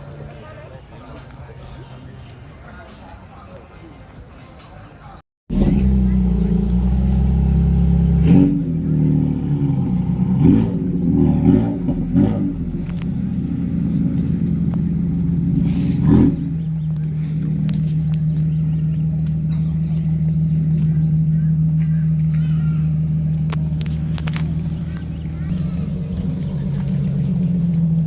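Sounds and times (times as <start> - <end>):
car engine idling: 5.5 - 28.0.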